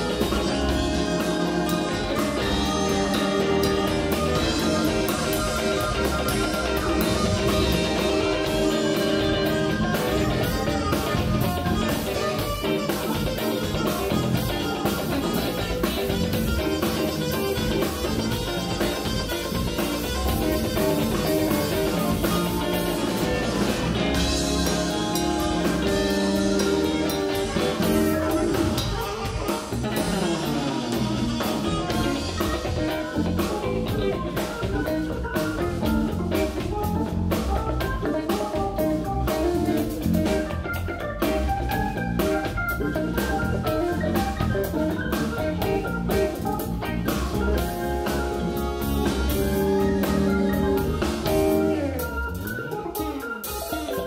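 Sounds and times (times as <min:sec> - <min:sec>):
drum kit beat: 0:00.0 - 0:54.0
electric bass: 0:00.0 - 0:54.0
electric guitar: 0:00.0 - 0:54.0
keyboard: 0:00.0 - 0:54.0.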